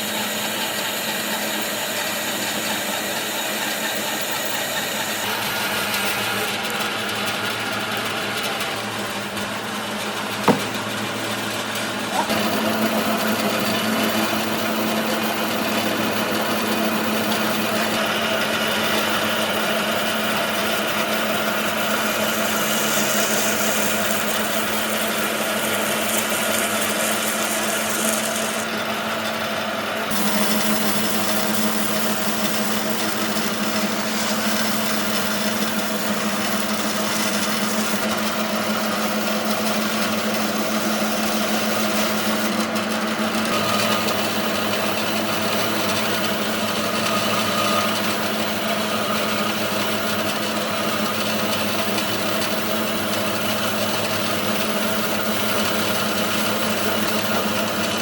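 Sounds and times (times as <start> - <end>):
woodworking power tool running: 0.0 - 58.0.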